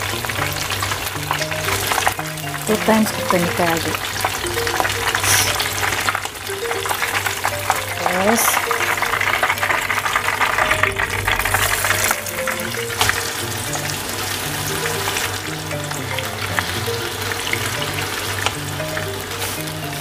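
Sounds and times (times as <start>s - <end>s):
chicken deep-frying in oil: 0.0s - 20.0s
soft background music: 0.0s - 20.0s.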